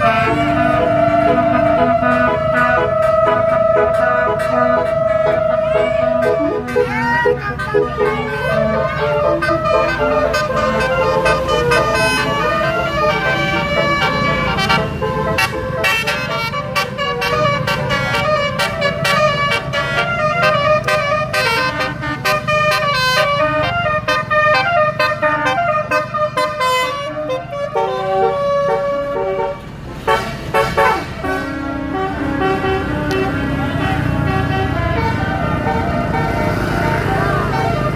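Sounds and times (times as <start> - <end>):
bus engines rumbling: 0.0 - 37.9
bus horns playing melodies: 0.0 - 37.9.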